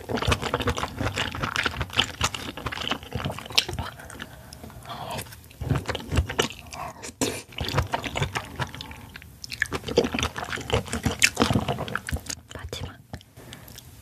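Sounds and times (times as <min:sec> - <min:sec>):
mouth chewing clicks and smacks: 0:00.0 - 0:04.6, 0:05.7 - 0:13.9.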